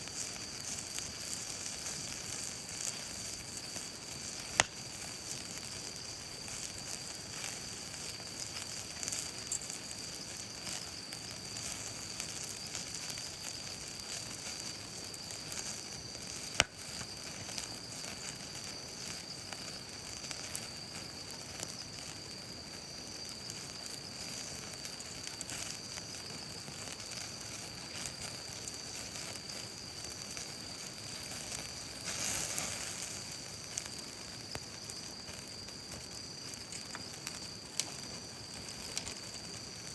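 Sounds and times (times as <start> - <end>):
steak sizzling on a grill: 0.0 - 39.9
wood fire crackling: 0.0 - 39.9.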